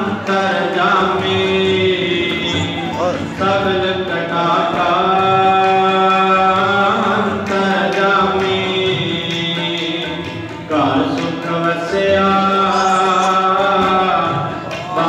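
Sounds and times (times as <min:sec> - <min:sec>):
harmonium sustained notes: 0:00.0 - 0:15.0
man singing a hymn: 0:00.0 - 0:15.0.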